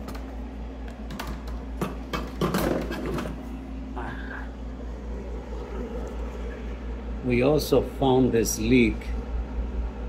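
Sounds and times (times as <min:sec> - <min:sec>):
compressor humming: 0:00.0 - 0:10.0.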